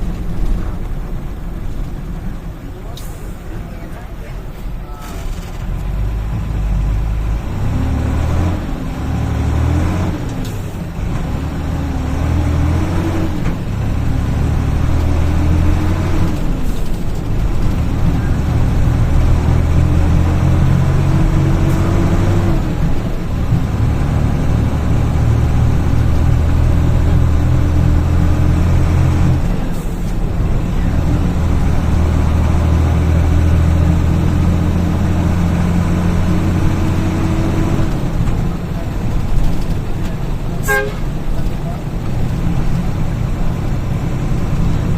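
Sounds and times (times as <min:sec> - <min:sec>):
bus engine pulling under load: 0:00.0 - 0:44.9.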